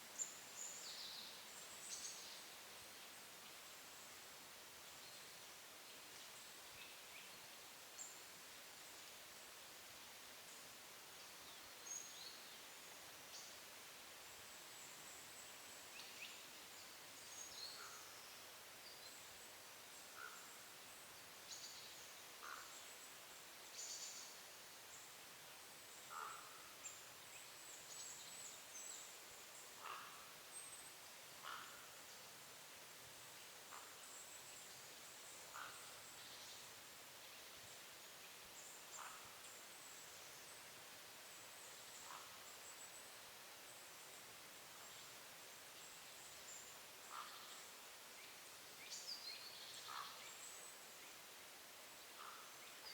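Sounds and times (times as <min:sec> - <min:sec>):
background hiss: 0:00.0 - 0:52.9.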